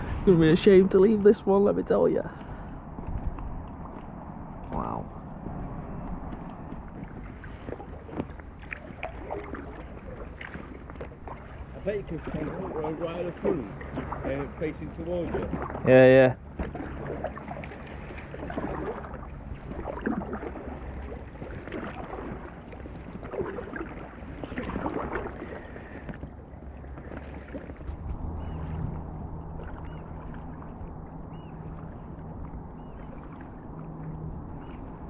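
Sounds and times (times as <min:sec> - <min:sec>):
paddle strokes splashing in water: 0:02.3 - 0:35.0.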